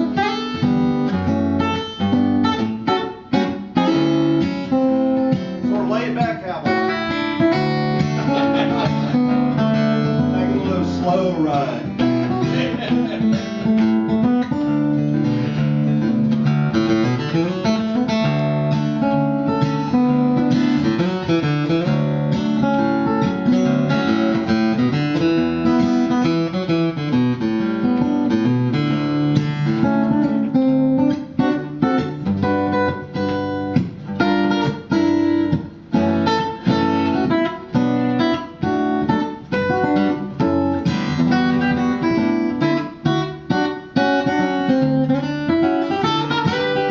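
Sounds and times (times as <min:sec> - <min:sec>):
fingerstyle acoustic guitar: 0:00.0 - 0:46.9.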